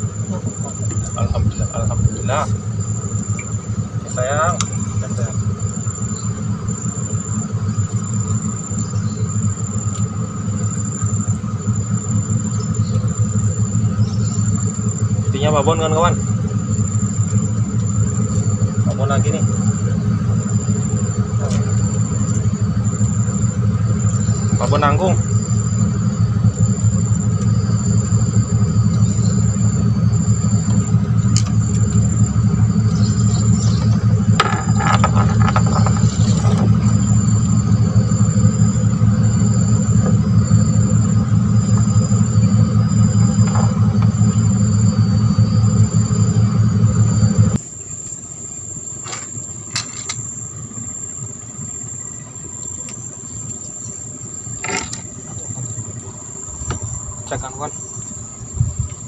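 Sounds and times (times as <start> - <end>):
small engine running: 0.0 - 47.6, 49.0 - 59.0
insects chirping buzz: 0.0 - 59.0.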